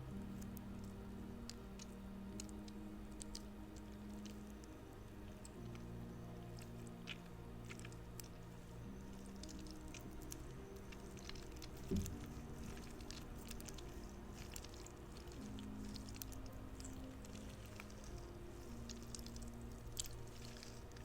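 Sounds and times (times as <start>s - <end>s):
soft background music: 0.0s - 21.0s
squishy toy crackling and squelching: 0.0s - 21.0s.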